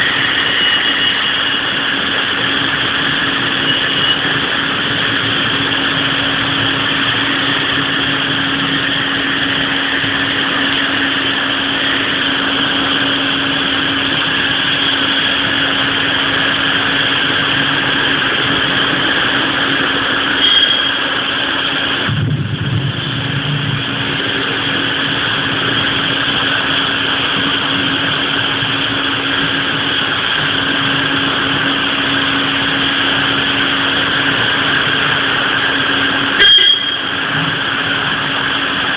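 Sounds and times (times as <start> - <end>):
heavy rain: 0.0 - 38.9
steady low hum: 0.0 - 38.9.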